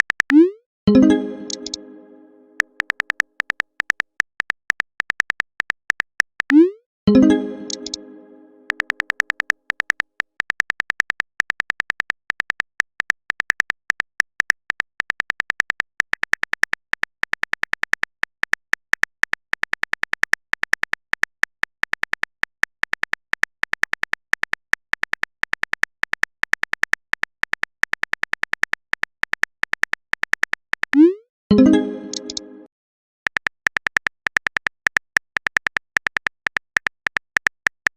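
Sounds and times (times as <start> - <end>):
phone keyboard typing clicks: 0.0 - 2.0, 2.6 - 32.6, 33.3 - 37.9.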